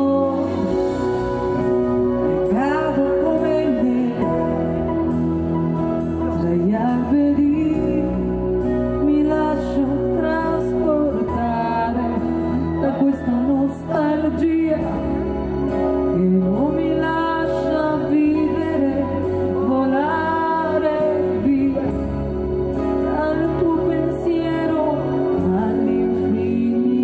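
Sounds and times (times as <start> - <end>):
keyboard: 0.0 - 27.0
woman singing into a microphone: 0.0 - 27.0.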